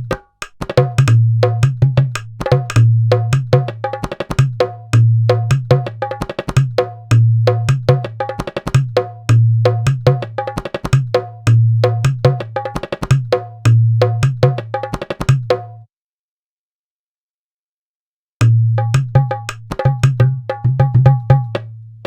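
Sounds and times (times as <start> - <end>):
hand drum rhythm: 0.0 - 15.8, 18.4 - 21.8.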